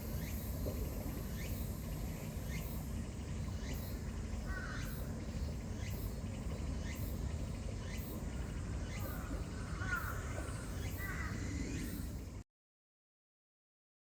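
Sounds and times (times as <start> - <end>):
insects chirping: 0.0 - 12.4.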